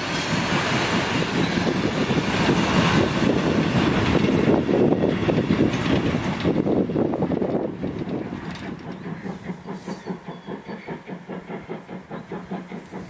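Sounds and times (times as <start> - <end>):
train rumbling past on rails: 0.0 - 13.0.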